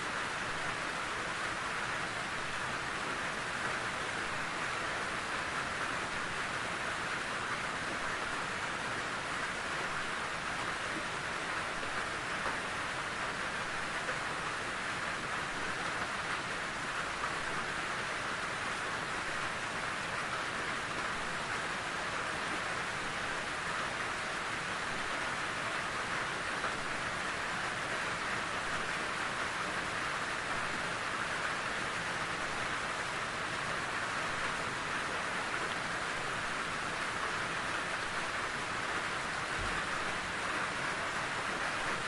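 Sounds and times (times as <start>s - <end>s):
steady rain hiss: 0.0s - 42.0s.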